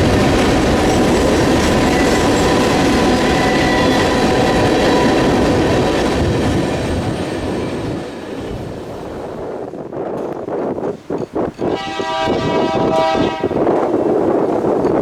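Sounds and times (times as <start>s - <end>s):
freight train rumbling and rattling: 0.0s - 15.0s.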